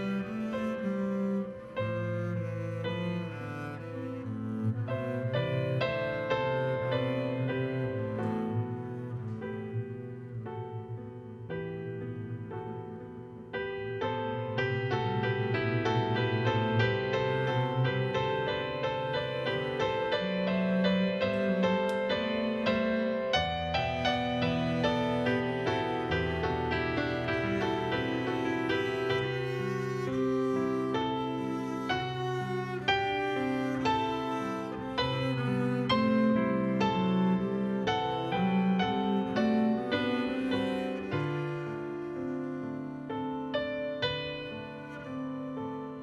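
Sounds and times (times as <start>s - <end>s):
piano chords: 0.0s - 46.0s
violin notes: 0.0s - 46.0s.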